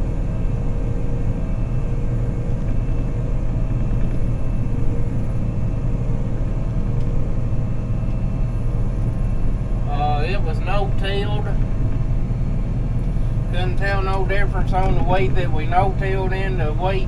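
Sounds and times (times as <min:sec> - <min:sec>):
combine harvester rumbling: 0:00.0 - 0:17.0
faint steady hum: 0:00.0 - 0:17.0.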